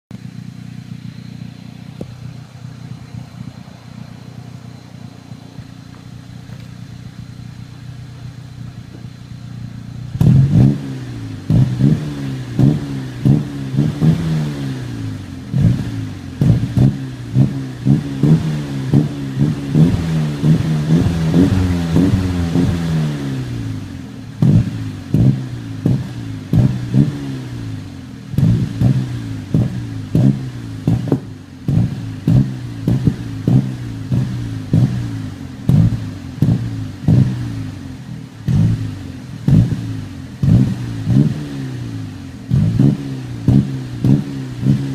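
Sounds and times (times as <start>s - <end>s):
exhaust pops: 0.1s - 22.9s, 23.5s - 44.9s
car engine revving: 0.1s - 44.9s.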